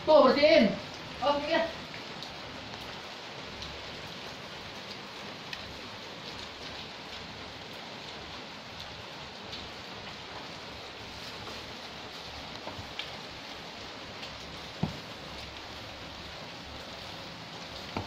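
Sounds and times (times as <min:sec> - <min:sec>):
steady hiss: 0:00.2 - 0:18.0.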